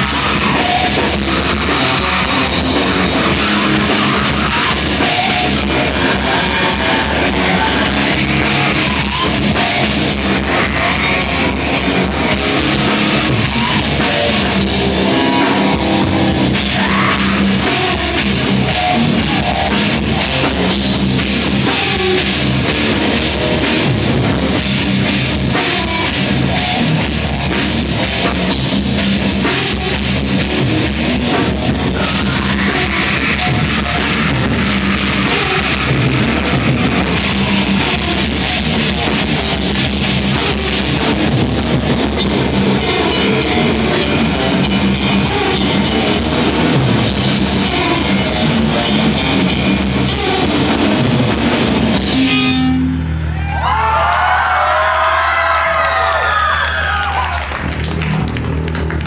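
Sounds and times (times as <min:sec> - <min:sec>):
heavy metal band playing live: 0:00.0 - 0:53.8.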